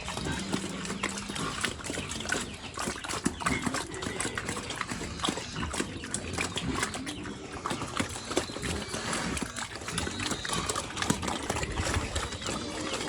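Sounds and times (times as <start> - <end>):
pigs chomping and slurping: 0.0 - 13.0.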